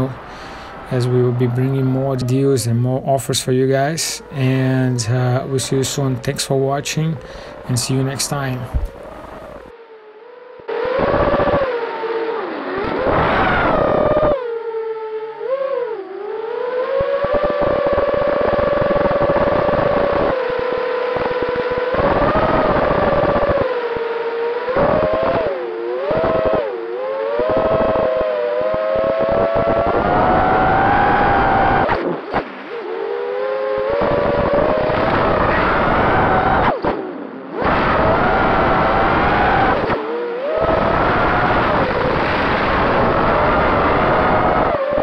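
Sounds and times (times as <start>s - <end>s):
drone motors whining: 0.0s - 45.0s.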